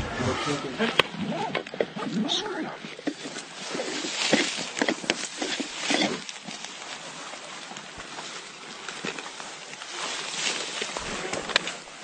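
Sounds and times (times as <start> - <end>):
grass and clothing rustling: 0.0 - 12.0.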